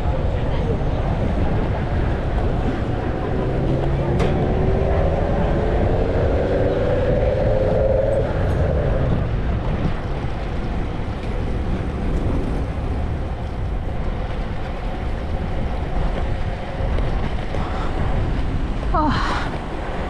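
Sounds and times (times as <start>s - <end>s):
city traffic rumble: 0.0s - 20.0s
wind buffeting microphone: 0.0s - 20.0s.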